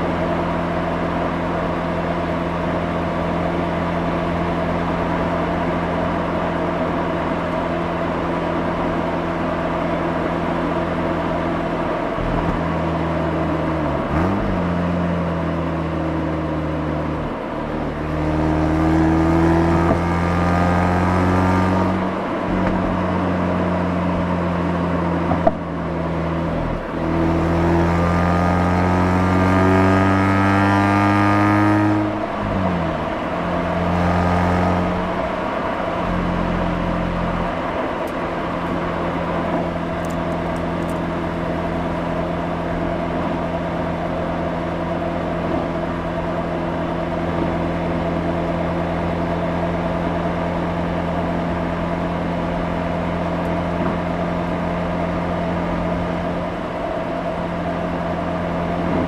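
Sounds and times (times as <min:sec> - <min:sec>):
rotary engine exhaust note: 0:00.0 - 0:59.0.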